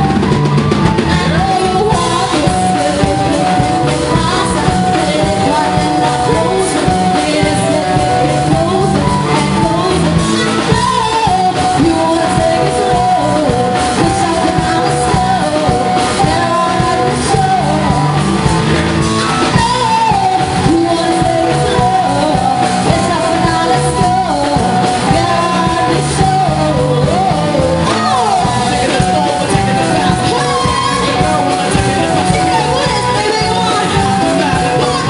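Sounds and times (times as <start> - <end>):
live band playing amplified music: 0.0 - 35.0
person singing: 0.0 - 35.0.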